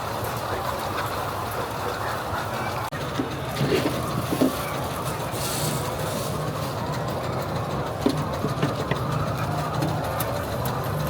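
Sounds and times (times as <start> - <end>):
mechanical running hum: 0.0 - 11.0.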